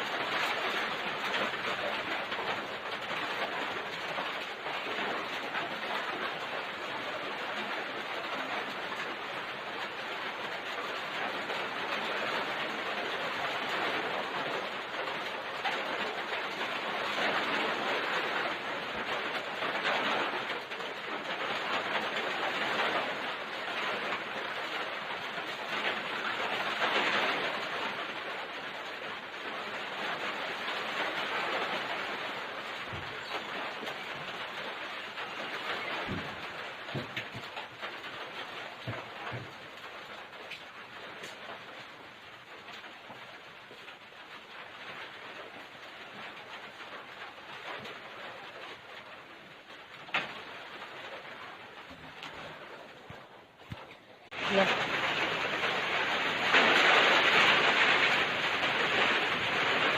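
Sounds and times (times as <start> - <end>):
strong wind and rain: 0.0 - 59.9.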